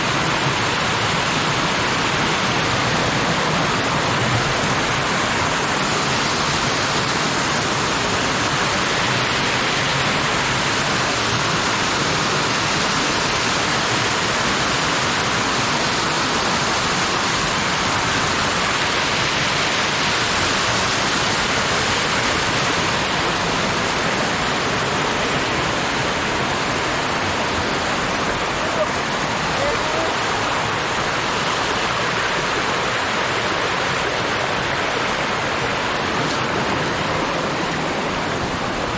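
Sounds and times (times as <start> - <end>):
stream rushing over cascades: 0.0 - 38.9.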